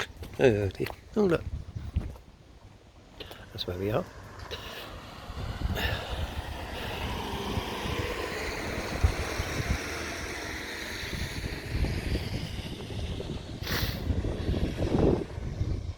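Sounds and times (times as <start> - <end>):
wind buffeting microphone: 0.0 - 2.4, 3.4 - 15.9
traffic noise: 0.0 - 15.9
vehicle passing: 2.8 - 15.9.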